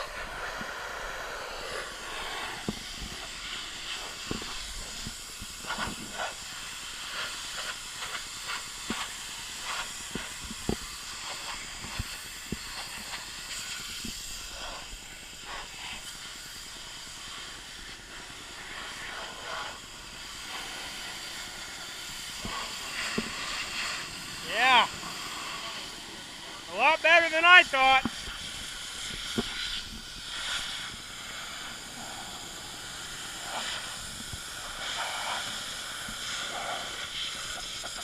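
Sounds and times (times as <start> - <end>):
pressure washer spray hissing: 0.0 - 38.0
sharp ticks and spatters: 1.6 - 38.0.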